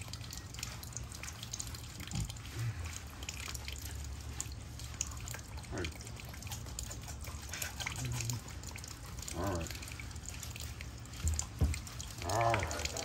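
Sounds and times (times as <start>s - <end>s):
low steady hum: 0.0s - 13.0s
water dripping and trickling: 0.0s - 13.0s.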